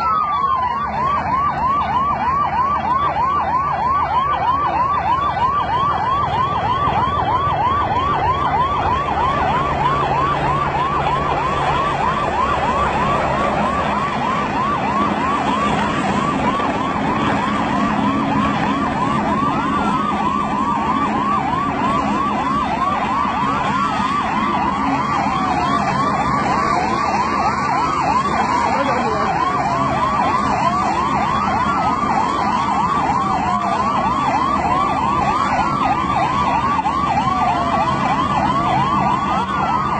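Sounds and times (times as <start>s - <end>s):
siren with slow falling sweeps: 0.0s - 39.9s
siren yelping: 0.0s - 39.9s.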